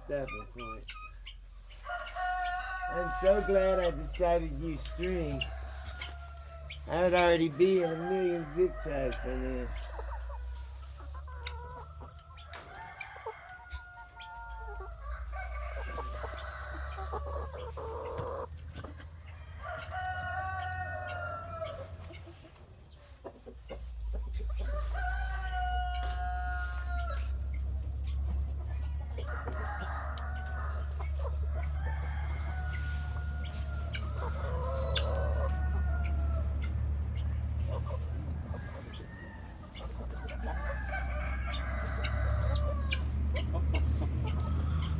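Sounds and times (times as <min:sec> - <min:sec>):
hens clucking: 0:00.0 - 0:44.9
roosters crowing: 0:00.0 - 0:44.9.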